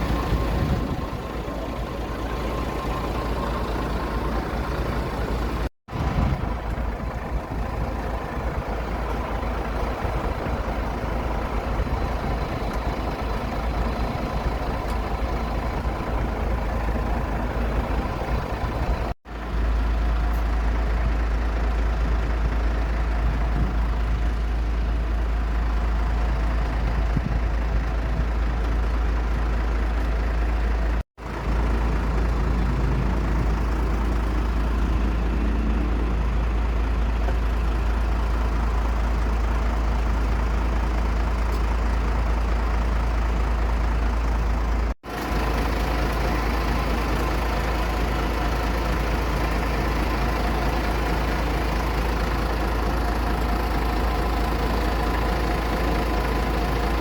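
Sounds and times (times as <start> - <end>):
aircraft engine rumbling: 0.0 - 57.0.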